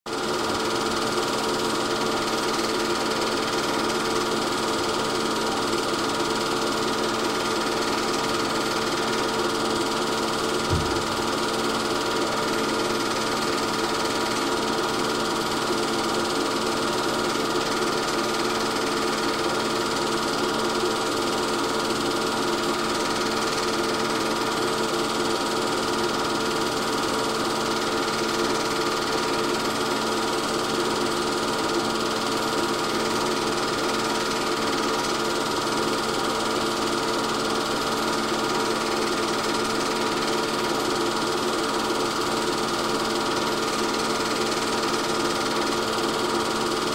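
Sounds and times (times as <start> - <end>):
film projector whirring hum: 0.1 - 46.9.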